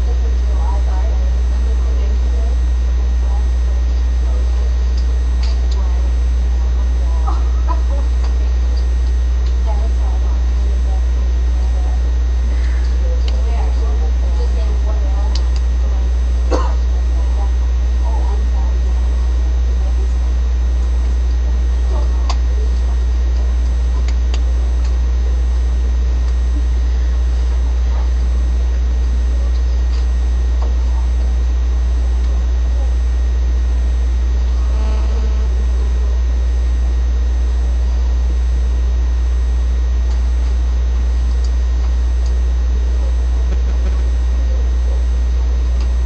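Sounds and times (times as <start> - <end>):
low hum with hiss: 0.0 - 46.0.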